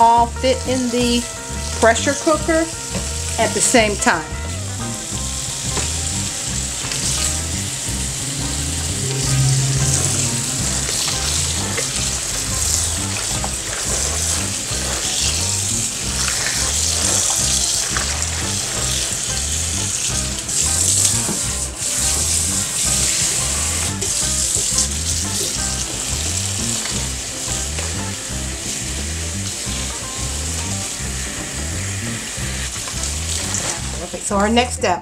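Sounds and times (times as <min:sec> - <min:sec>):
background music with steady beat: 0:00.0 - 0:35.0
hands rinsing wet leaves: 0:05.1 - 0:34.3.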